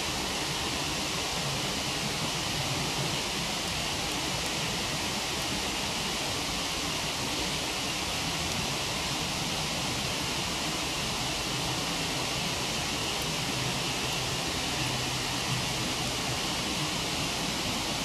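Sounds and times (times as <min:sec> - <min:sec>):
faint campfire crackles: 0:00.0 - 0:18.0.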